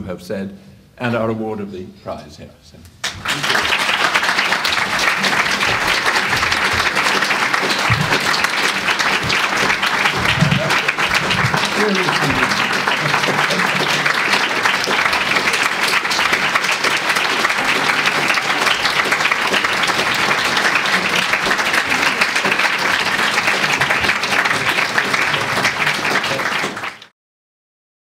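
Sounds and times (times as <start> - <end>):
audience applauding: 3.0 - 27.1.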